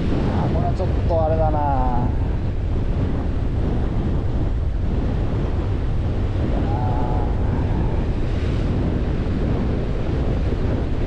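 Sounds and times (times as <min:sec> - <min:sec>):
sea waves against rocks: 0:00.0 - 0:11.0
wind buffeting microphone: 0:00.0 - 0:11.0.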